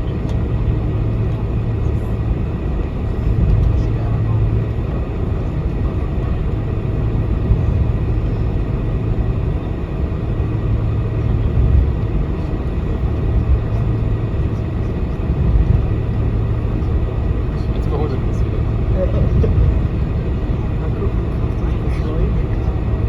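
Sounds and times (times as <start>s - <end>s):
constant cabin hum: 0.0s - 23.0s
engines idling low rumble: 0.0s - 23.0s.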